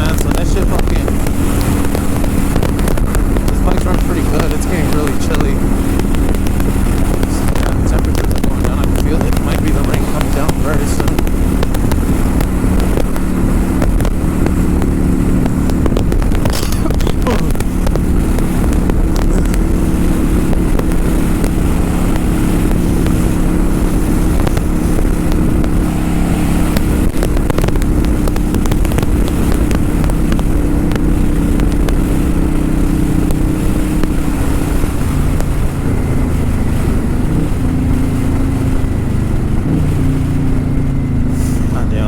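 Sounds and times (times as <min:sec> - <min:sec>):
motorcycle engine running: 0:00.0 - 0:42.0
wind rushing over microphone: 0:00.0 - 0:42.0.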